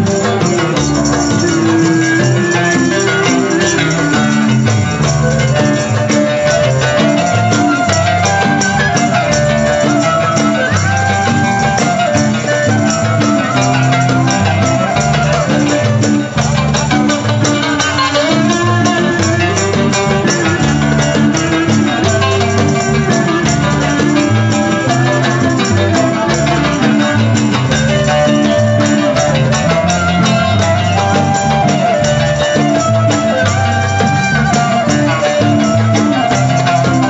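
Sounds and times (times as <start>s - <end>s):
clarinet: 0.0s - 37.0s
frame drum beat: 0.0s - 37.0s
guitar: 0.0s - 37.0s
oud: 0.0s - 37.0s.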